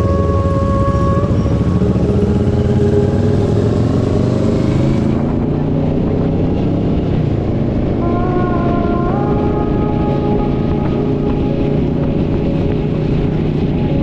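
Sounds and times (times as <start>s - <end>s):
motorcycle engine running: 0.0s - 14.0s
steady music tones: 0.0s - 14.0s.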